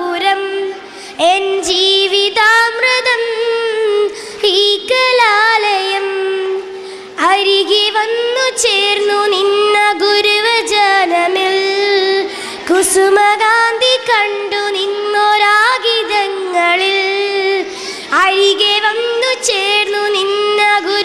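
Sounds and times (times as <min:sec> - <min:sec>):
girl singing into microphone: 0:00.0 - 0:21.0.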